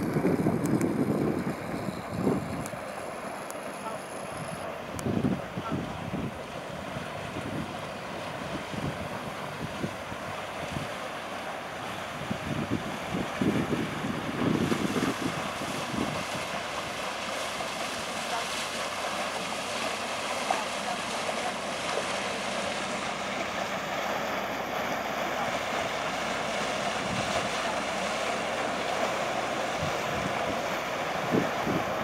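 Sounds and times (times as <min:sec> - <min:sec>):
wind buffeting microphone: 0:00.0 - 0:17.8, 0:22.3 - 0:32.0
boat engine running: 0:00.0 - 0:32.0
boat wash on water: 0:00.0 - 0:32.0.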